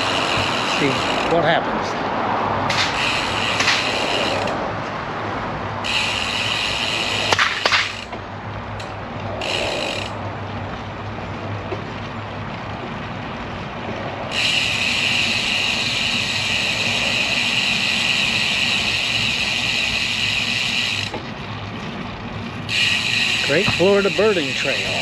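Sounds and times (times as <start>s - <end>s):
bicycle freehub buzzing: 0.0s - 25.0s.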